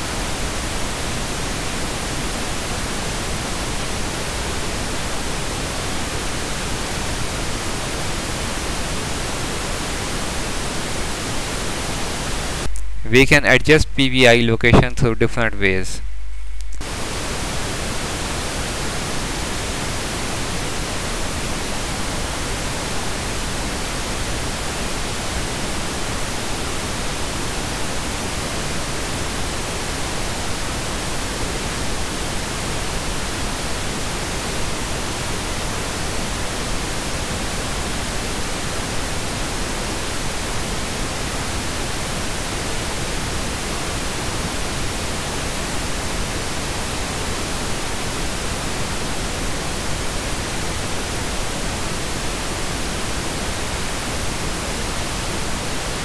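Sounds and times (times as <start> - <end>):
steady broadband hiss: 0.0 - 56.0.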